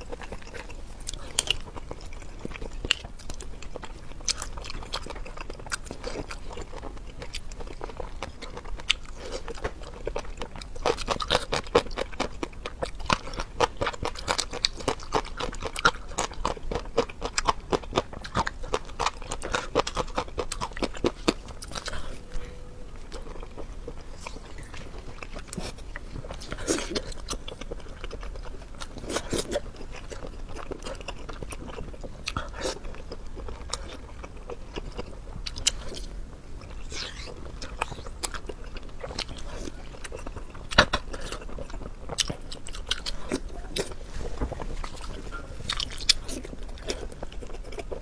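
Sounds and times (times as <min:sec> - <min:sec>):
person chewing with mouth smacks: 0:00.0 - 0:48.0.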